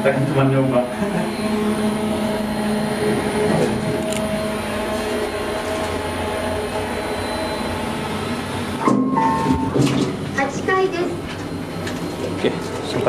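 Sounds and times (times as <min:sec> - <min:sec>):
lift car mechanical hum: 0:00.0 - 0:13.0.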